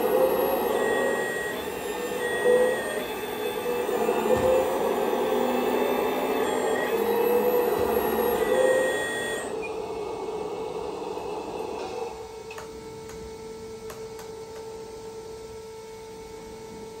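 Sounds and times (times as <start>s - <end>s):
hydraulic pump whirring: 0.0s - 14.4s.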